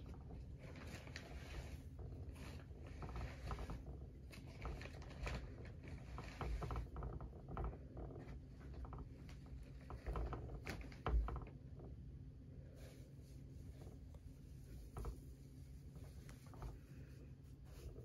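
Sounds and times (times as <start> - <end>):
small clicks and scratching: 0.0 - 11.9, 13.7 - 18.0.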